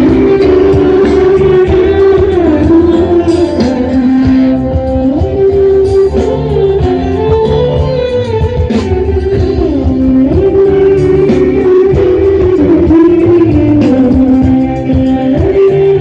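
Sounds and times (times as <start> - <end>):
low accompaniment: 0.0 - 16.0
plucked string melody: 0.0 - 16.0.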